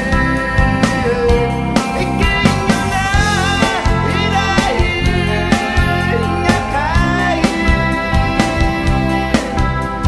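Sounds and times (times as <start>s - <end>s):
guitar-led band music: 0.0s - 10.0s.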